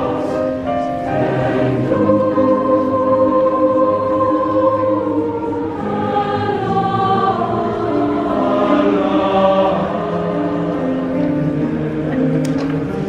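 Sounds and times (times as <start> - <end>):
choir of young voices singing: 0.0 - 13.0.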